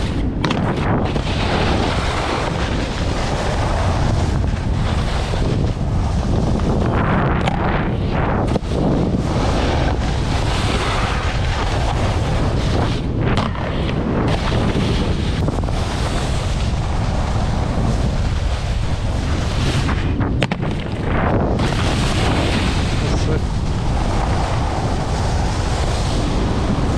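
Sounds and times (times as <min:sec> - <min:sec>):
snowboard scraping on snow: 0:00.0 - 0:26.9
wind buffeting microphone: 0:00.0 - 0:26.9.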